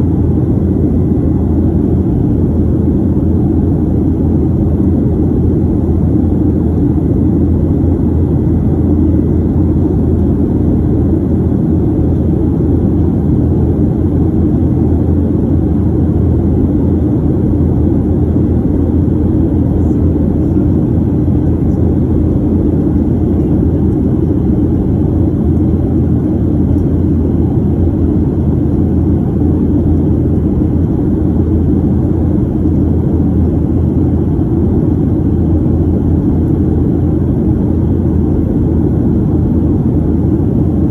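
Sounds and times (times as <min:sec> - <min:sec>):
jet engines rumbling: 0:00.0 - 0:40.9
rushing air in cabin: 0:00.0 - 0:40.9.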